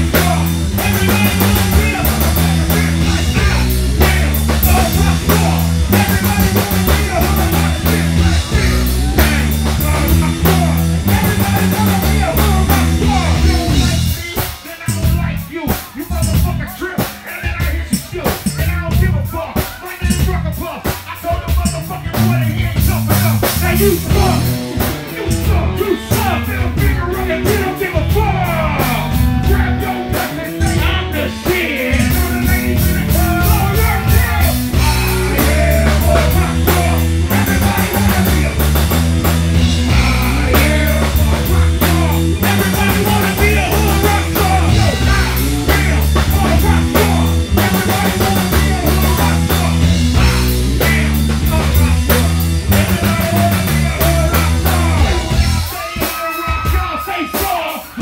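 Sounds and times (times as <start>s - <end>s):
electric guitar: 0.0s - 15.4s, 22.1s - 57.1s
bass line: 0.0s - 58.0s
drum kit: 0.0s - 58.0s
rapped vocals: 0.0s - 58.0s.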